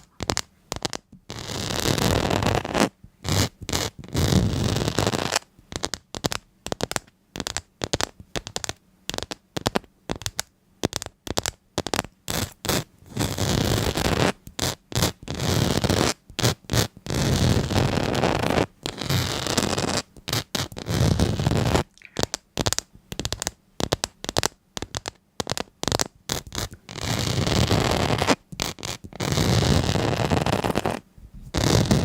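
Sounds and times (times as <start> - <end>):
scratching and scraping: 0.0 - 32.0.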